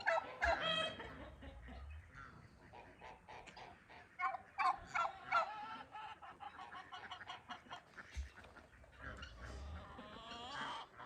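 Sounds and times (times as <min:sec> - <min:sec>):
poultry clucking: 0:00.0 - 0:11.0.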